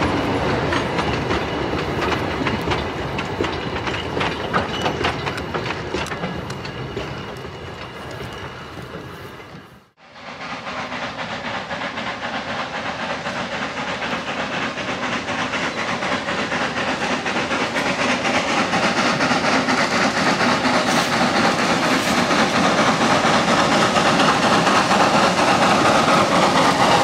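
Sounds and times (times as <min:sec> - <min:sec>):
steam locomotive exhaust beats: 0:00.0 - 0:27.0.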